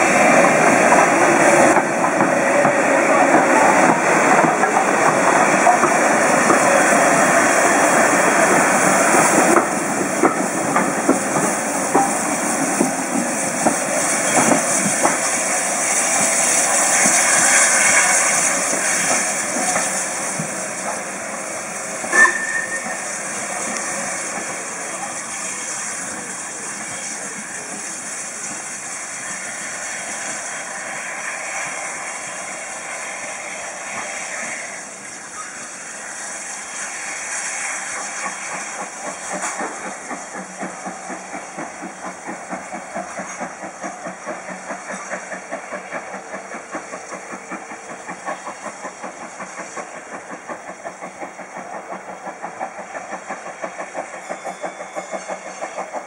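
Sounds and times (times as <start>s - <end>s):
steam locomotive hissing and working: 0.0s - 56.0s.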